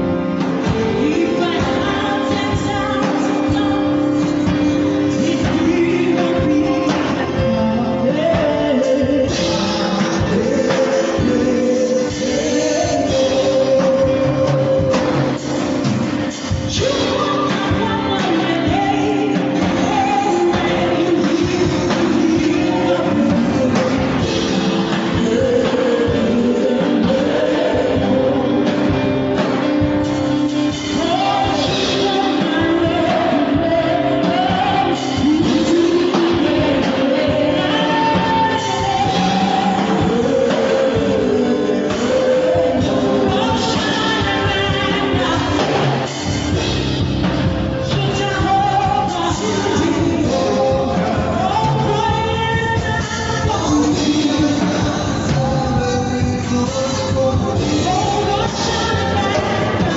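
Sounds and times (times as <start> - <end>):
song with band: 0.0 - 59.9.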